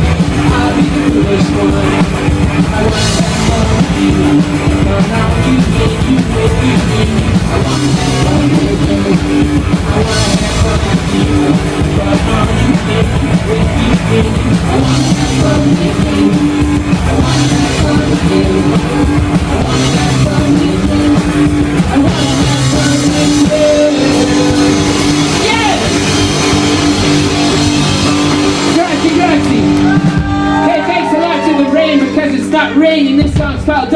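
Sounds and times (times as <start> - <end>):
electric guitar: 0.0 - 32.7
drum kit with cymbals: 0.0 - 33.9
punk rock band playing: 0.0 - 33.9.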